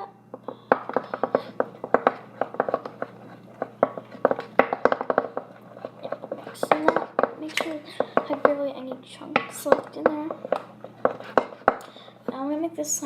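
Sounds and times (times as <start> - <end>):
spoon tapping bowl: 0.3 - 8.7, 9.4 - 11.9
spoon stirring in a bowl: 0.3 - 12.4.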